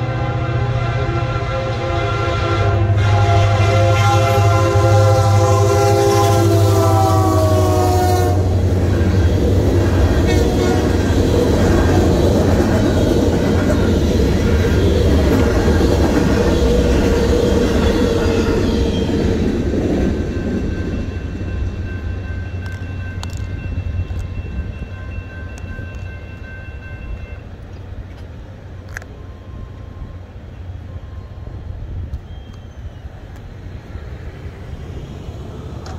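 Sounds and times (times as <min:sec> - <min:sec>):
train wheels rumbling on rails: 0:00.0 - 0:35.9
crossing warning bell ringing: 0:03.0 - 0:33.2.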